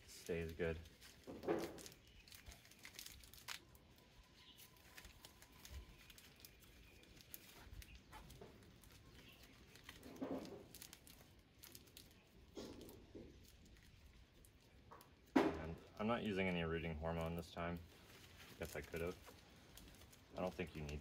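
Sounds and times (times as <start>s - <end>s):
plastic bag and tape crinkling: 0.0s - 21.0s.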